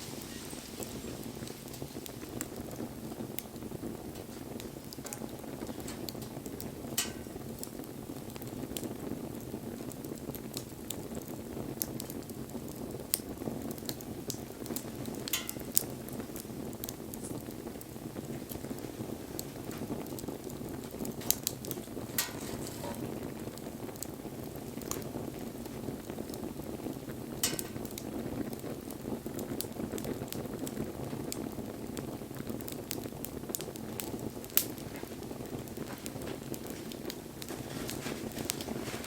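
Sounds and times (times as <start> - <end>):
crackles and pops of burning wood: 0.0 - 39.0
wood fire burning: 0.0 - 39.0.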